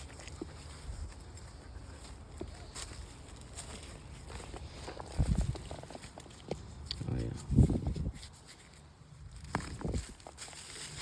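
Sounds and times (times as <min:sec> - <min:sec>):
footsteps on gravel: 0:00.0 - 0:11.0.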